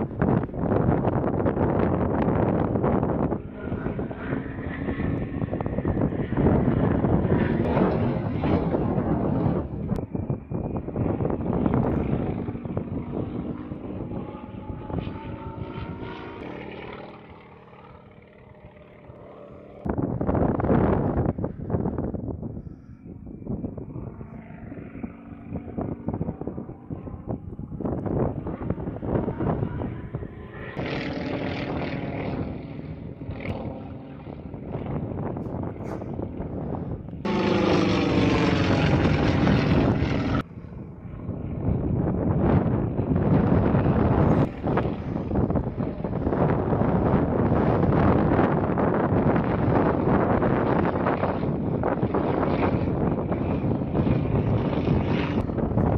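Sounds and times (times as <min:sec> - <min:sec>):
propeller plane engine droning: 0:00.0 - 0:55.9.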